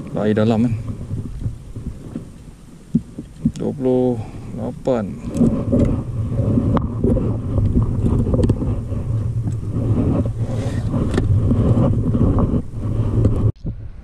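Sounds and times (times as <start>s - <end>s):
choppy water: 0.0s - 14.0s
wind buffeting microphone: 0.0s - 14.0s.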